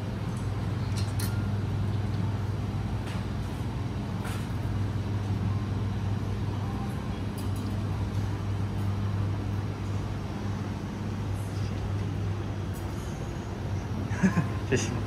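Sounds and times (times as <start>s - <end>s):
ventilation fan hum: 0.0s - 15.0s.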